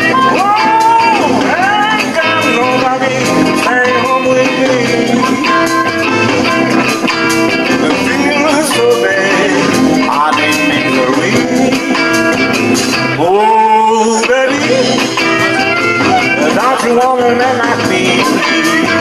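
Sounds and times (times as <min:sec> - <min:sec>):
electric guitar rhythm chords: 0:00.0 - 0:19.0
harmonica bending notes: 0:00.0 - 0:19.0.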